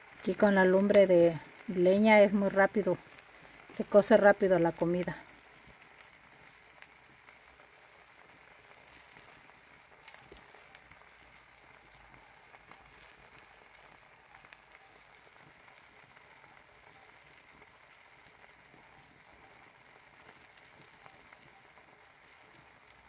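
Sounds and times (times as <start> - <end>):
beef sizzling with pops: 0.0 - 23.0.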